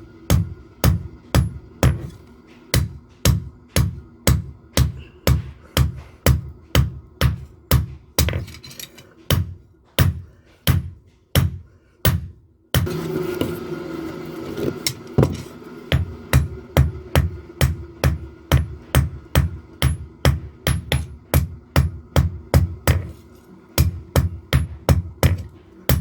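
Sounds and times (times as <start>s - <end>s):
steady noisy hum: 0.0s - 26.0s
hammer striking steel on anvil: 0.3s - 13.0s, 15.2s - 23.2s, 23.8s - 26.0s.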